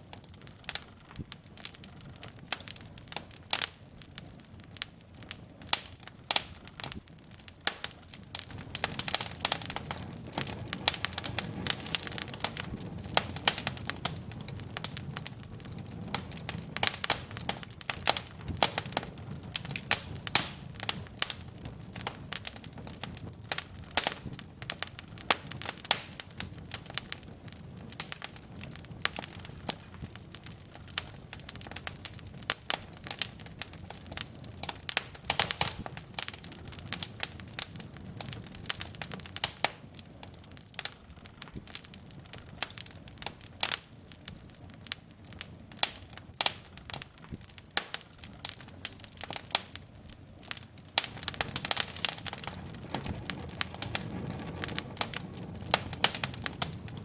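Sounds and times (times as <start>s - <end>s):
logs crackling and popping: 0.0s - 57.0s
low rumble of flame: 0.0s - 57.0s.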